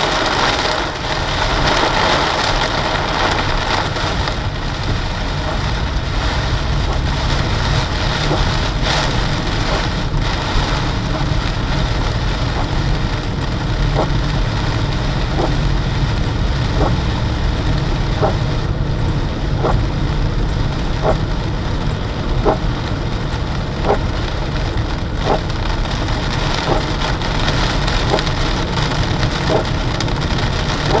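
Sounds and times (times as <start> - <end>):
car road noise: 0.0 - 31.0
heavy rain on car: 0.0 - 31.0
windscreen wipers sweeping: 0.0 - 31.0.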